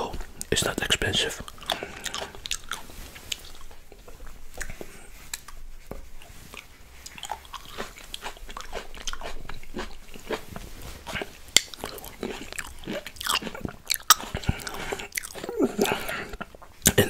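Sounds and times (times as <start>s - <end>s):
grapes chewed wet crunches: 0.0s - 17.0s.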